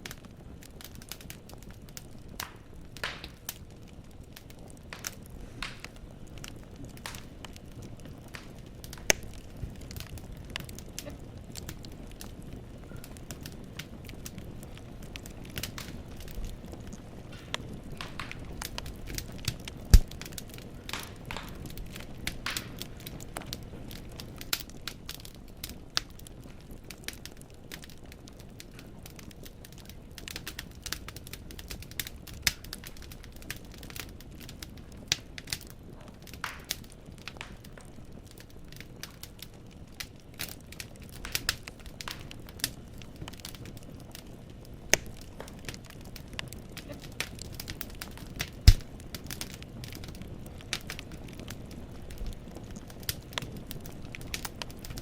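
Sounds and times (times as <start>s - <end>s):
wood logs crackling in fireplace: 0.0s - 55.0s.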